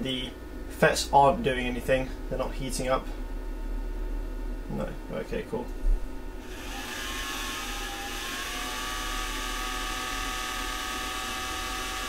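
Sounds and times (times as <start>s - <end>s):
electric fan running: 0.0s - 12.0s
low mains hum: 0.0s - 12.0s.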